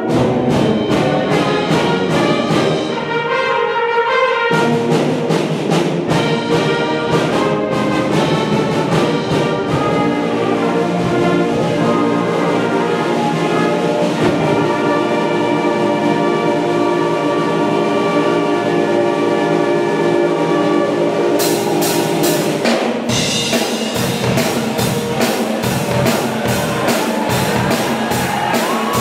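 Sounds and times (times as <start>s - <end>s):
concert band playing: 0.0s - 29.0s.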